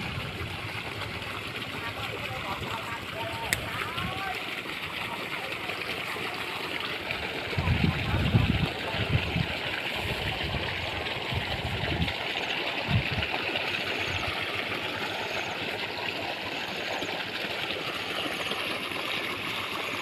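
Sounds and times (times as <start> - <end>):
water rushing through a channel: 0.0 - 20.0.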